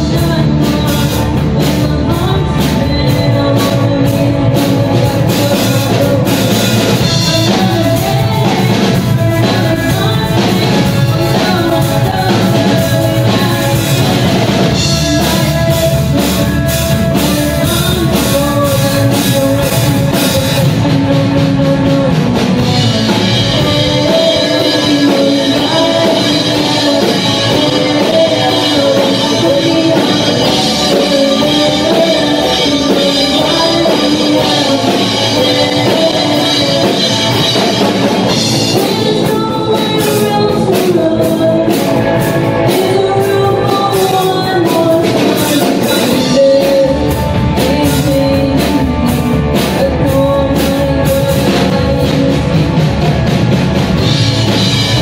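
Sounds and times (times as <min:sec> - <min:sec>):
live rock band playing: 0:00.0 - 0:55.0
woman singing lead vocal: 0:00.0 - 0:55.0.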